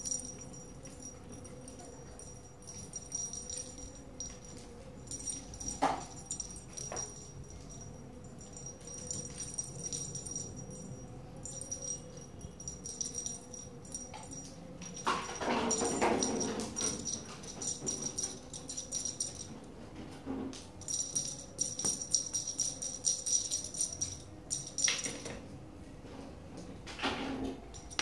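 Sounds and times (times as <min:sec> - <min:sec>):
small bell jingling: 0:00.0 - 0:19.6, 0:20.8 - 0:25.3, 0:27.7 - 0:28.0.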